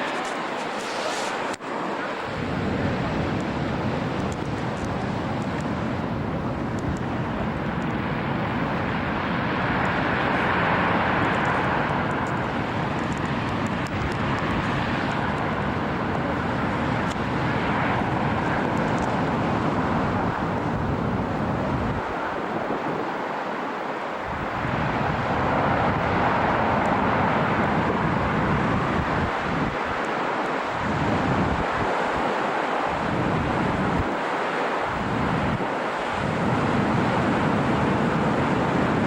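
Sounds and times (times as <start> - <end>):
storm wind buffeting microphone: 0.0 - 39.0.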